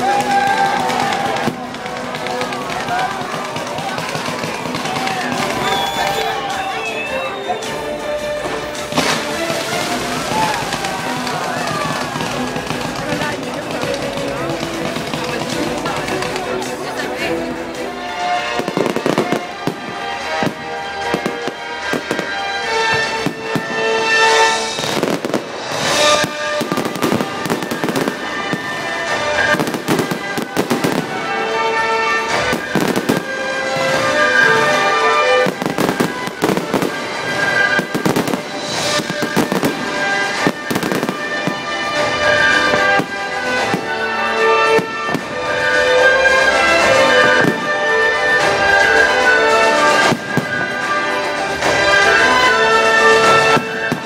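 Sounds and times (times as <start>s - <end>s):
fireworks bursting: 0.0s - 54.0s
music playing: 0.0s - 54.0s.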